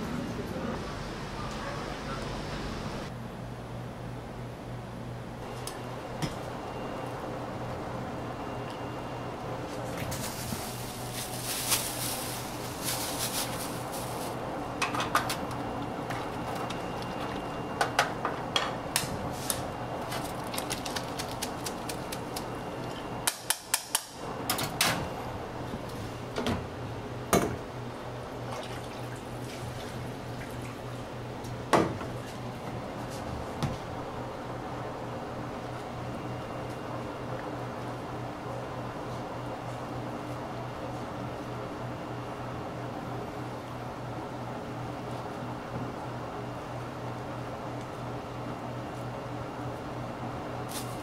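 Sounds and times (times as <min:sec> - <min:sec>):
low kitchen hum: 0:00.0 - 0:51.0.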